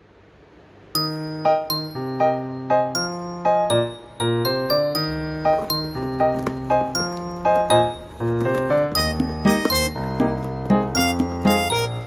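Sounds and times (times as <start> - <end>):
light instrumental melody: 0.9 - 12.0.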